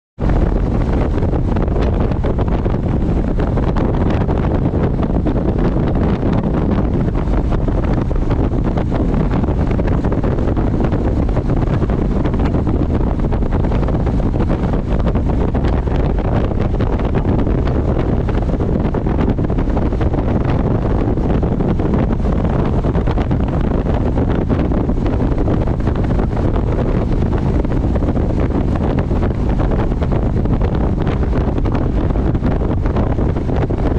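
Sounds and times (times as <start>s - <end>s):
motorcycle engine drone: 0.2s - 33.9s
wind rush on microphone: 0.2s - 33.9s.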